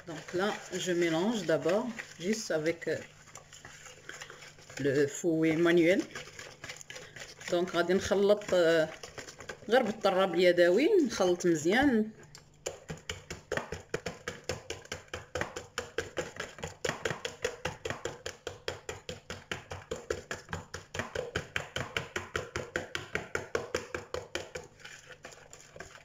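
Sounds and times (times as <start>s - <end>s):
whisk beating eggs in plastic bowl: 0.0s - 26.0s.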